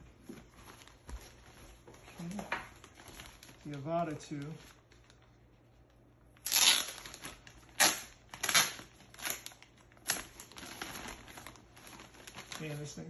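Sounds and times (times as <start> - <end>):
packaging crinkling: 0.4 - 5.3, 6.4 - 13.0.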